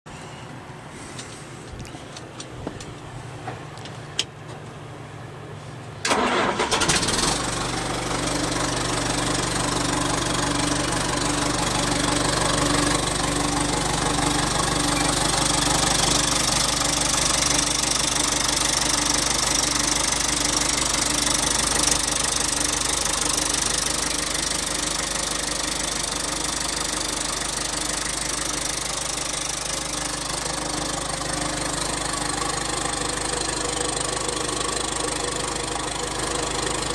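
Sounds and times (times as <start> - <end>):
diesel engine starting and idling: 2.8 - 36.9.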